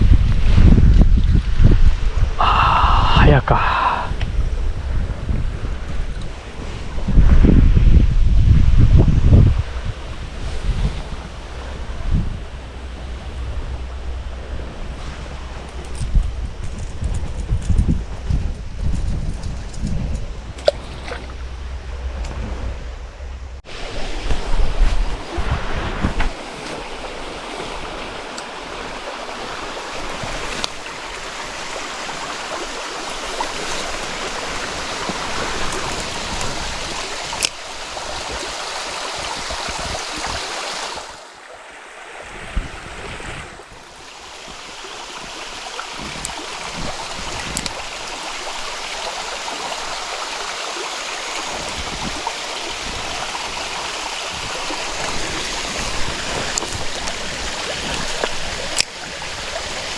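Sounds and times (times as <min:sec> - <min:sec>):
water rushing in a stream: 0:00.0 - 0:59.9.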